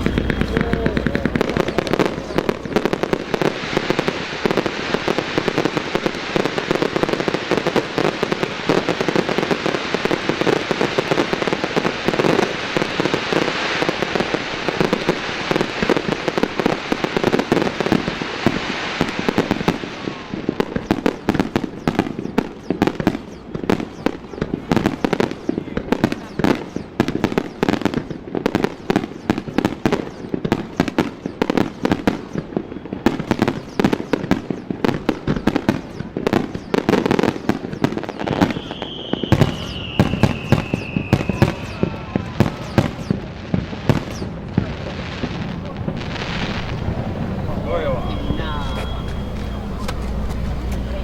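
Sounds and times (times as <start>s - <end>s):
fireworks crackling bursts: 0.0s - 51.0s.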